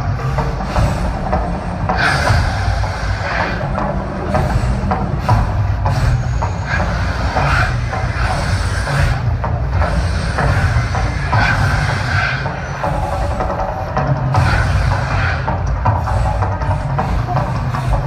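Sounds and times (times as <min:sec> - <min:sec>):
deep continuous rumble: 0:00.0 - 0:18.0.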